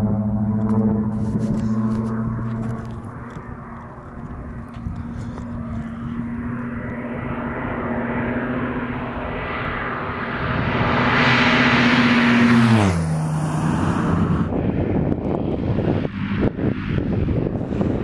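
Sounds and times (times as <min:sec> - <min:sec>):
propeller plane engine passing overhead: 0:00.0 - 0:18.0.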